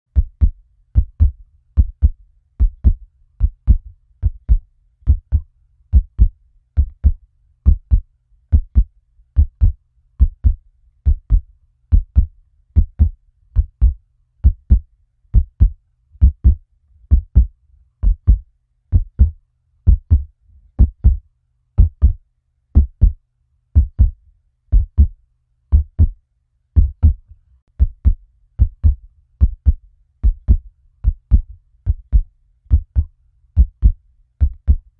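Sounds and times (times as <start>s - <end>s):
heartbeat thumps: 0.1s - 21.2s, 21.8s - 22.2s, 22.8s - 23.2s, 23.8s - 26.2s, 26.8s - 27.2s, 27.8s - 34.9s
faint low hum: 0.1s - 34.9s.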